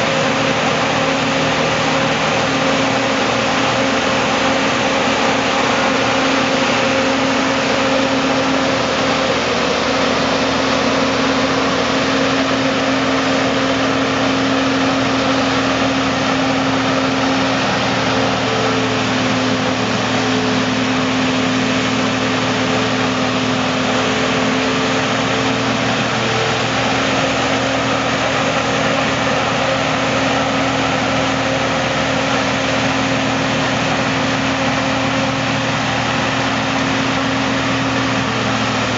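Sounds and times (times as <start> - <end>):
forage harvester engine drone: 0.0 - 38.9.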